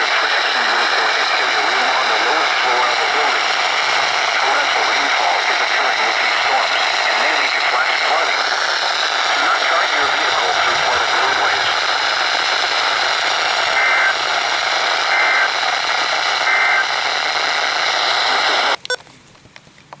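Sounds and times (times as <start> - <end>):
radio hiss and static: 0.0 - 19.0
two-tone data bursts: 0.0 - 19.0.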